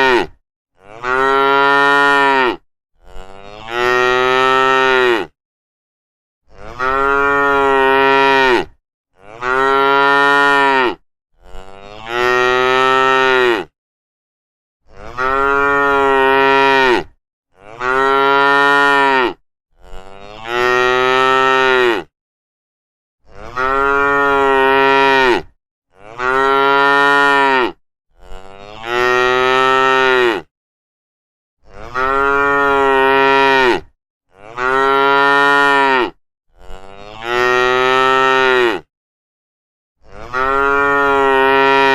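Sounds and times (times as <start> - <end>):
cows mooing: 0.0 - 5.3, 6.6 - 13.7, 14.9 - 22.1, 23.3 - 30.5, 31.7 - 38.9, 40.2 - 41.9.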